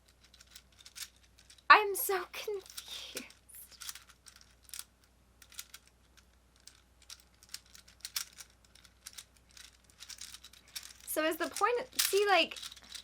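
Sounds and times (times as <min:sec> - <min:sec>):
plastic toy clicking: 0:00.2 - 0:01.7, 0:02.6 - 0:13.0.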